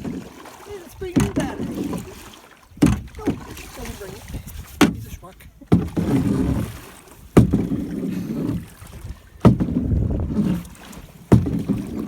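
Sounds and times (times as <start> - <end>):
oar knocking: 0.0 - 12.0
water swishing: 0.0 - 12.0.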